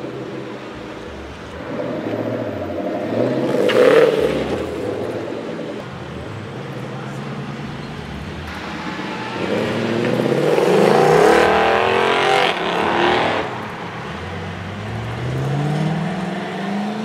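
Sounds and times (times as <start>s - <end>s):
car engines driving off: 0.0s - 17.0s.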